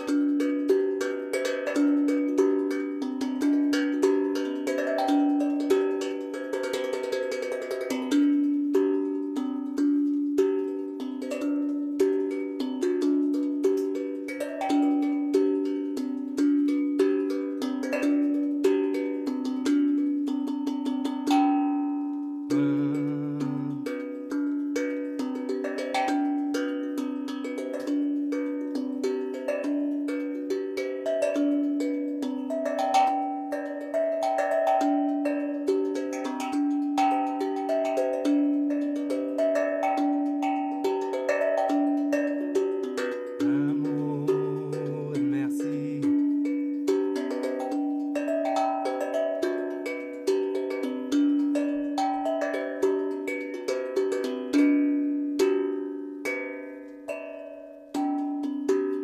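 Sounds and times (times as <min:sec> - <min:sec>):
steel tongue drum melody: 0:00.0 - 0:59.0.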